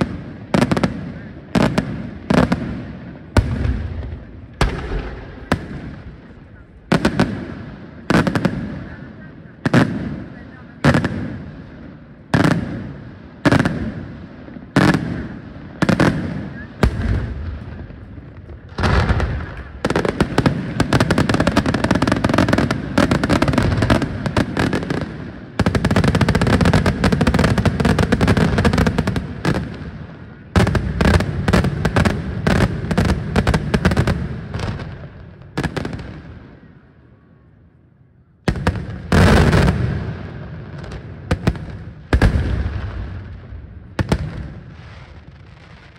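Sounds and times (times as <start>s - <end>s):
fireworks bangs: 0.0s - 36.9s, 38.4s - 45.9s
rapid crackle of fireworks: 0.0s - 37.1s, 38.4s - 45.9s.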